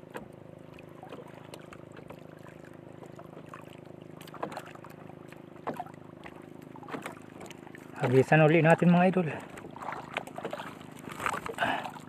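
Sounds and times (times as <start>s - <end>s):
faint motor drone: 0.0s - 12.0s.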